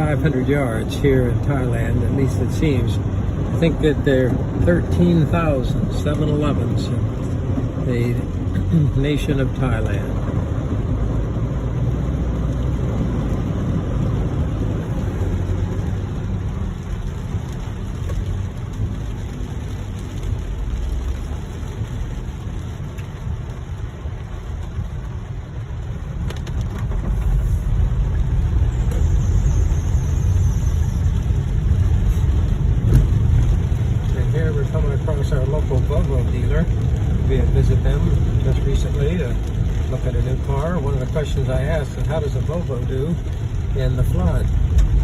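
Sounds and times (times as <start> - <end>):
engine and tyre rumble: 0.0 - 45.0
water hissing under tyres: 4.6 - 45.0.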